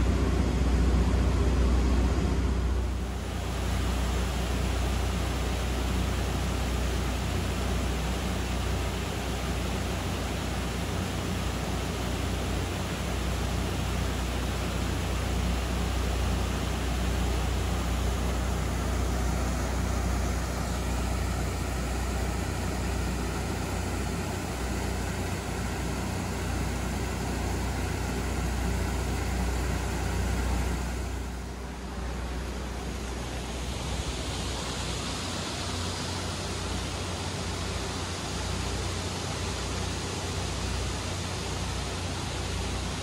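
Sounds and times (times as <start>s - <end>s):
low engine hum: 0.0s - 43.0s
river water rushing: 3.0s - 43.0s.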